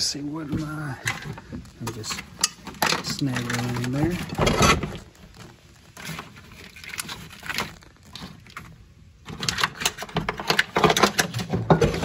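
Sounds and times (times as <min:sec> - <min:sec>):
plastic wire loom clattering and scraping: 0:01.1 - 0:05.1, 0:05.9 - 0:12.0.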